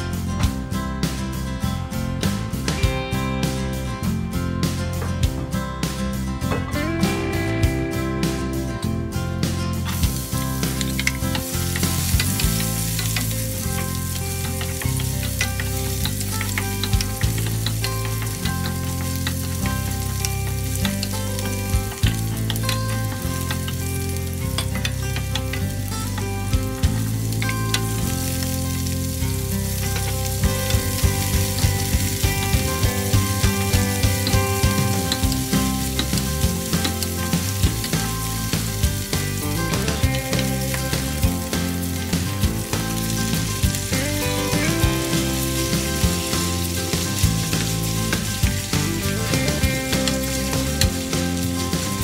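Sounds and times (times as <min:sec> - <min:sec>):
garlic sizzling in hot oil: 0:05.8 - 0:52.0.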